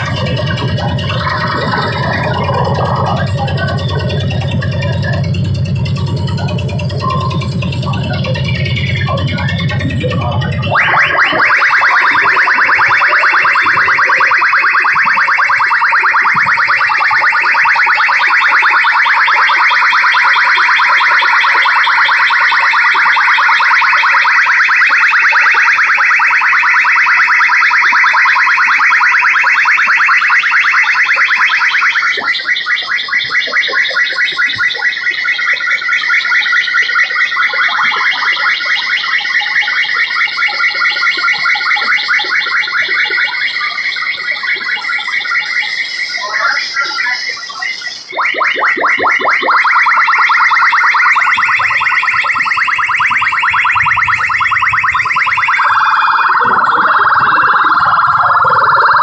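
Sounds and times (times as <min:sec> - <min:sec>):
loud electronic chirping tone: 0:00.0 - 0:59.0.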